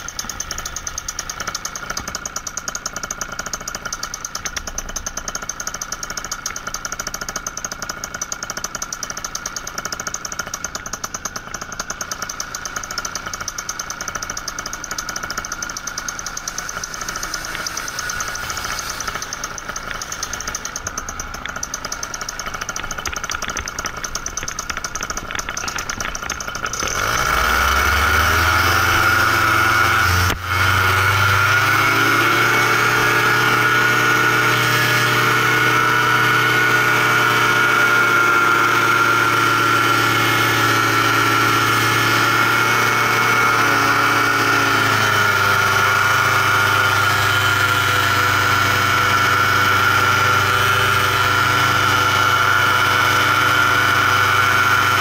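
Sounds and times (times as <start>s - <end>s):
paramotor engine revving: 0.0s - 55.0s.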